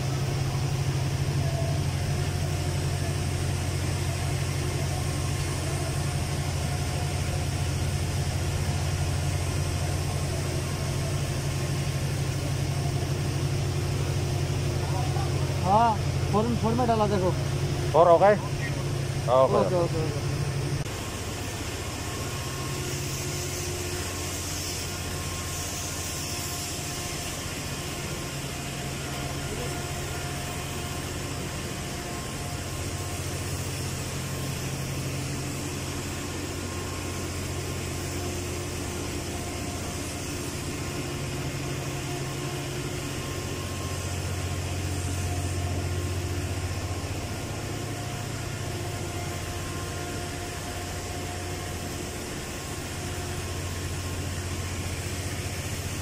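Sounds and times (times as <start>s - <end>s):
industrial machinery hum: 0.0s - 56.0s
machinery hiss: 0.0s - 56.0s.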